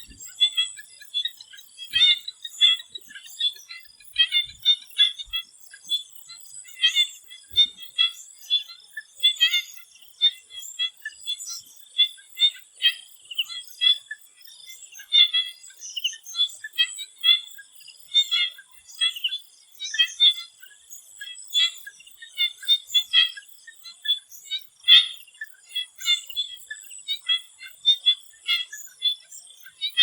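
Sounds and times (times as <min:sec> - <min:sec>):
frogs calling in chorus: 0:00.0 - 0:30.0.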